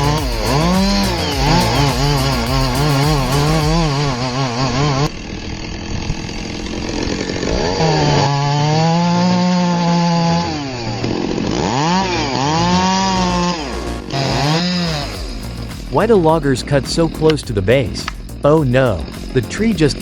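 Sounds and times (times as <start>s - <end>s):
chainsaw running and cutting: 0.0s - 20.0s.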